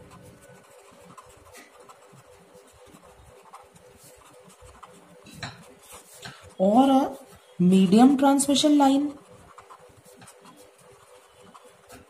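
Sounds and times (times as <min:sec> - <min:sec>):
pen scratching on paper: 0:00.0 - 0:12.0.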